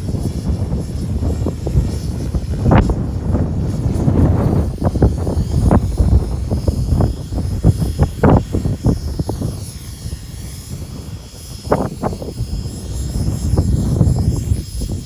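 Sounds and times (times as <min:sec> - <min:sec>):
helicopter rotor and motor whine: 0:00.0 - 0:15.0
wind buffeting microphone: 0:00.0 - 0:15.0.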